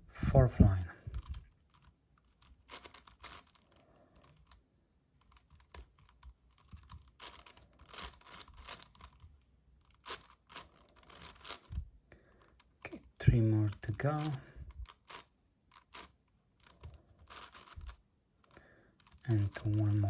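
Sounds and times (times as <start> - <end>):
puzzle cube plastic clicks: 1.1 - 20.0.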